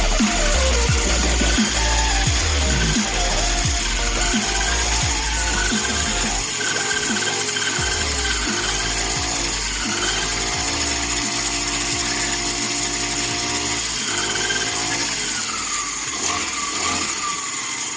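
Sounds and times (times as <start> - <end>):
brush cutter engine whining: 0.0 - 17.9.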